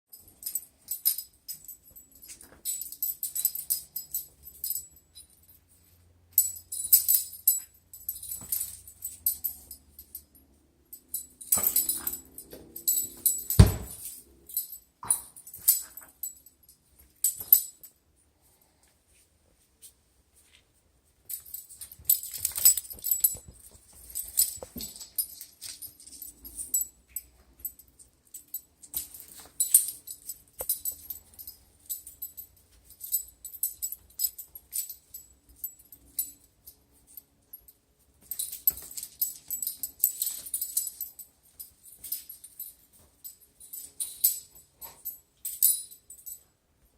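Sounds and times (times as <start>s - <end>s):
small bells jingling: 0.1s - 18.0s, 21.2s - 46.6s.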